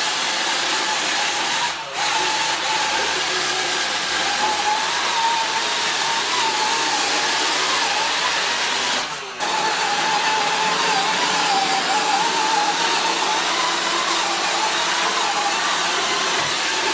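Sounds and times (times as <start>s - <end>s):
robot vacuum whirring: 0.0s - 16.9s.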